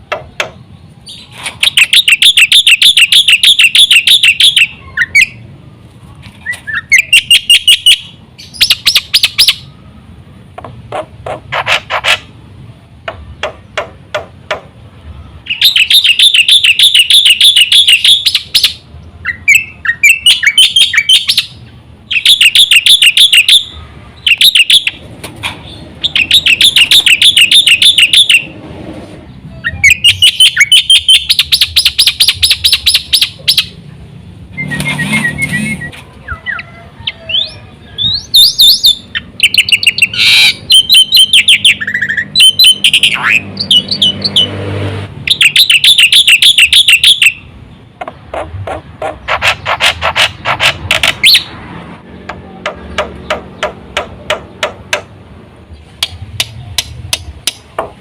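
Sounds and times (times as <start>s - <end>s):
bird singing harsh chattering: 0.1s - 5.5s, 6.4s - 9.8s, 13.1s - 28.6s, 29.3s - 44.6s, 45.2s - 57.7s.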